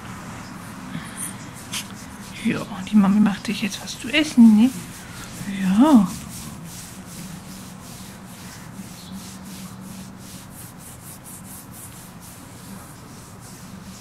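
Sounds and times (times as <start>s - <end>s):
low steady hum: 0.0s - 14.0s
hand rubbing dog fur: 0.6s - 14.0s.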